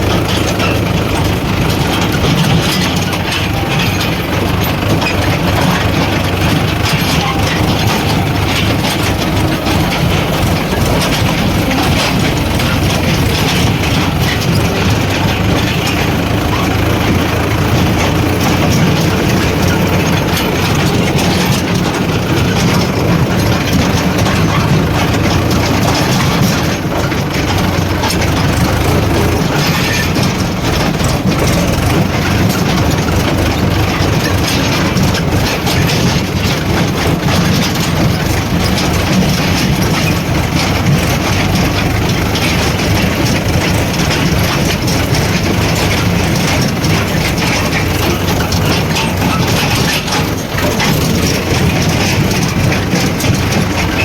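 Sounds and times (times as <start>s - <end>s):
constant clattering: 0.0s - 54.0s
diesel engines running: 0.0s - 54.0s.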